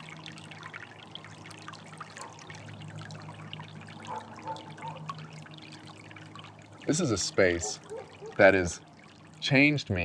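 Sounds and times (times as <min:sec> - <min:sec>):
water trickling and splashing: 0:00.0 - 0:10.0.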